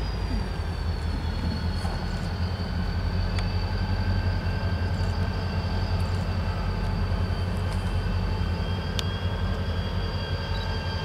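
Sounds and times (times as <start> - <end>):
diesel locomotive engine rumble: 0.0 - 11.0
high-pitched whine: 0.0 - 11.0.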